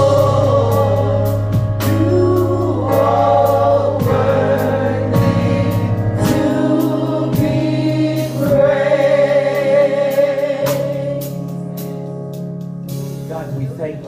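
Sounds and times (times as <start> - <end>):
church choir singing: 0.0 - 11.7
musical accompaniment: 0.0 - 14.0.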